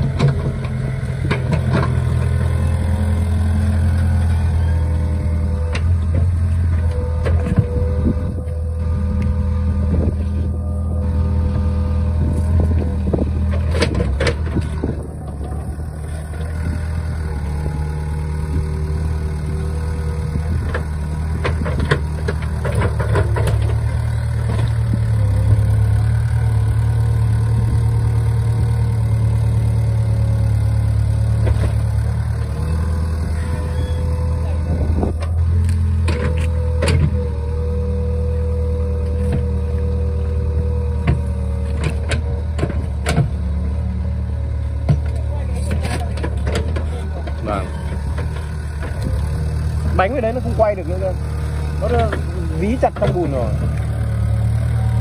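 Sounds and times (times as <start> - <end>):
excavator diesel engine straining: 0.0 - 55.0.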